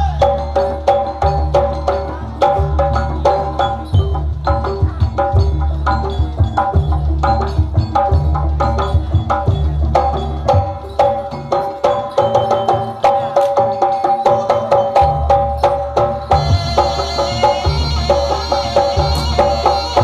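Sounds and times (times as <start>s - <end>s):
heavy low drum: 0.0s - 11.5s, 14.6s - 20.0s
fast hand drum patterns: 0.0s - 20.0s
ringing metal percussion tones: 0.0s - 20.0s.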